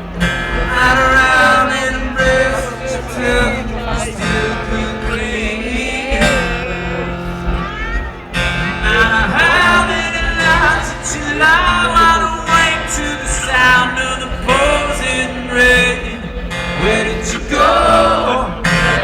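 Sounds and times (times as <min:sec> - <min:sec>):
acoustic guitar: 0:00.0 - 0:19.0
man singing: 0:00.0 - 0:19.0.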